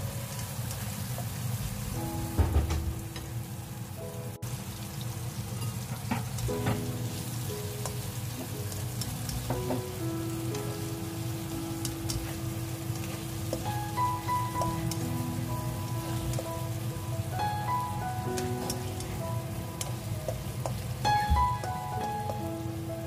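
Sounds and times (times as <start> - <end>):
food sizzling in a pan: 0.0 - 23.0
soft background music: 0.0 - 23.0.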